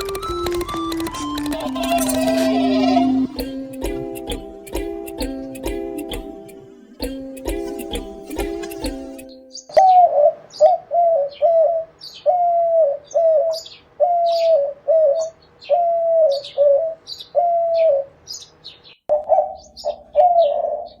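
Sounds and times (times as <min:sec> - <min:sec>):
doves cooing: 0:00.0 - 0:09.1, 0:09.8 - 0:18.2, 0:19.1 - 0:21.0
small birds chirping: 0:00.0 - 0:21.0.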